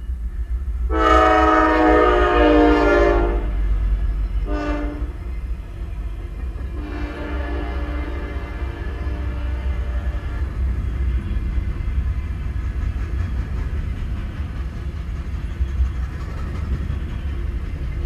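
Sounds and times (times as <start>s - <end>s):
freight train cars rolling on rails: 0.0s - 18.0s.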